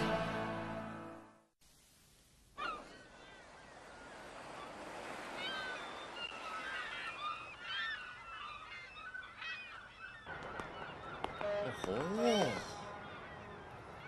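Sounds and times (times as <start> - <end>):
seagulls calling: 2.6 - 14.0.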